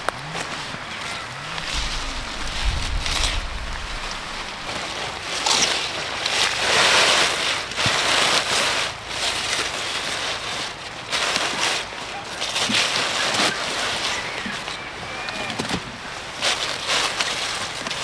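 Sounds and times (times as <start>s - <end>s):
leafy greens rustling in basket: 0.0s - 18.0s.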